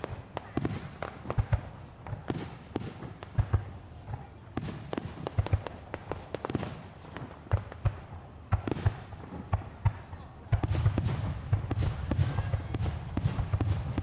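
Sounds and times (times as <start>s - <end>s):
deep firework booms: 0.0s - 14.0s
fireworks bangs and crackles: 0.0s - 14.0s.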